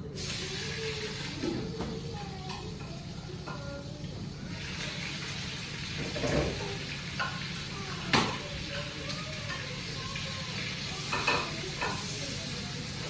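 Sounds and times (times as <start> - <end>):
faint tv voices: 0.0 - 13.0
food sizzling in a pan: 0.0 - 13.0.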